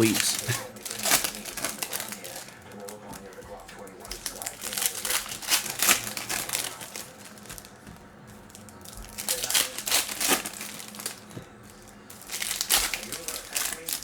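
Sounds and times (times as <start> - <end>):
cards being handled: 0.0 - 14.0
foil wrappers crinkling: 0.0 - 14.0.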